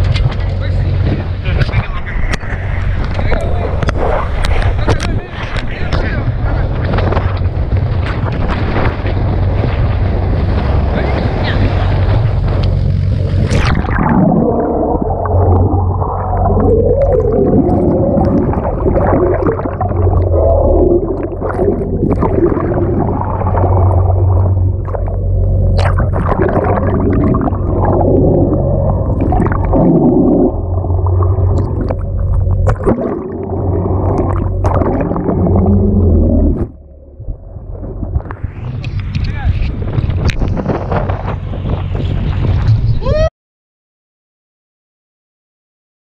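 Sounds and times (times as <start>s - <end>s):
churning water and bubbles: 0.0s - 42.9s
low underwater hum: 0.0s - 43.3s.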